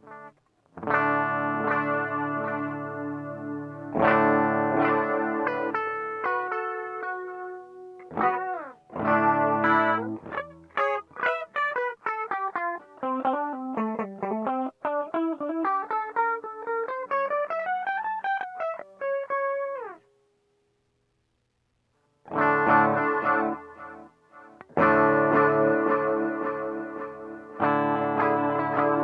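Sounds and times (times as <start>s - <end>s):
electric guitar with delay: 0.8s - 20.0s, 22.3s - 29.0s.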